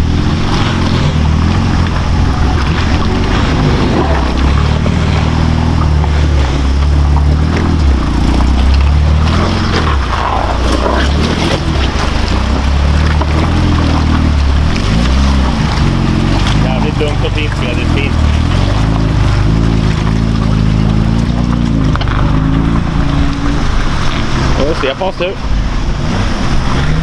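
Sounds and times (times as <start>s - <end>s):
diesel engine labouring: 0.0s - 27.0s
water and mud splashing: 0.0s - 27.0s.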